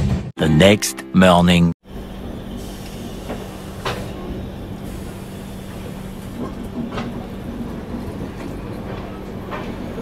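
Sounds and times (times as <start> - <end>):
train rumble with hum: 1.8 - 10.0.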